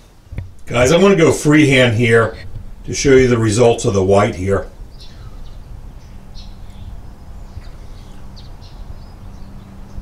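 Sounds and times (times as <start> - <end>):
low electrical hum: 0.0 - 10.0
small birds chirping: 0.0 - 10.0.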